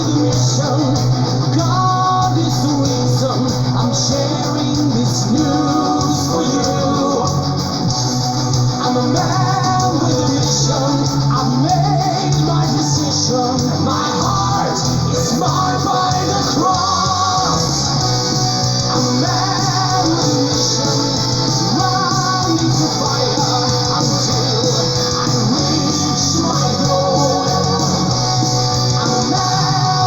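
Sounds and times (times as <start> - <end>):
metal guitars: 0.0 - 30.0
person singing: 0.0 - 30.0.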